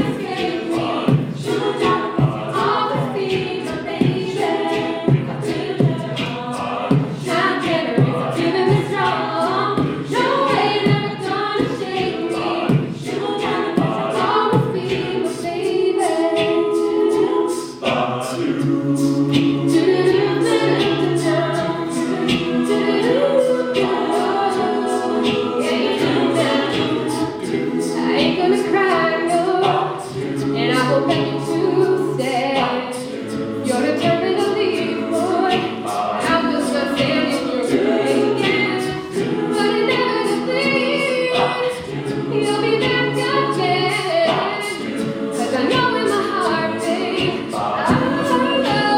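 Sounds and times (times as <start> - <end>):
a cappella group singing: 0.0 - 48.9.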